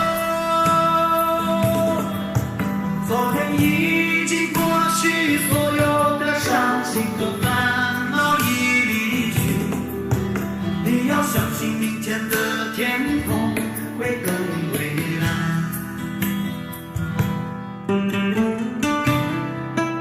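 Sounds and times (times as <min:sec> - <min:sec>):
song with gliding melody: 0:00.0 - 0:17.1.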